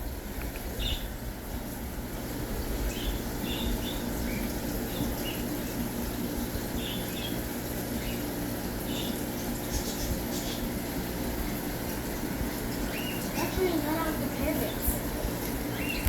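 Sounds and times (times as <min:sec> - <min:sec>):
birds chirping: 0:00.0 - 0:16.0
low background hum: 0:00.0 - 0:16.0.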